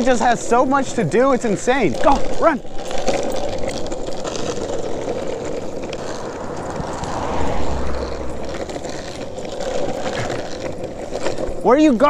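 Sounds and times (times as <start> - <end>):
longboard wheels rolling on asphalt: 0.0 - 12.0.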